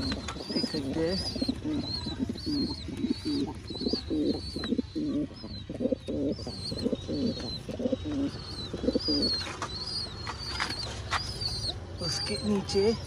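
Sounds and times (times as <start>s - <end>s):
high bird chirps: 0.0s - 13.0s
pigeons cooing: 0.0s - 13.0s.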